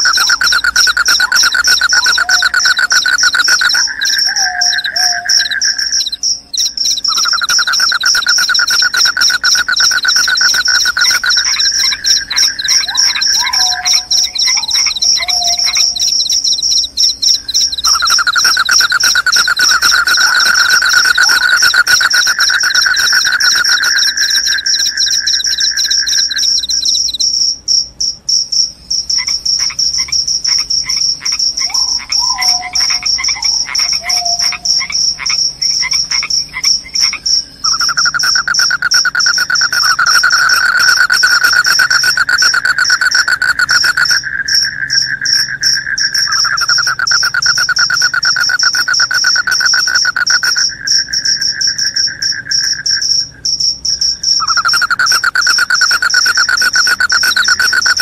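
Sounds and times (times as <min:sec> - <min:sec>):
crickets chirping: 0:00.0 - 0:58.0
lower insect trill: 0:00.0 - 0:58.0.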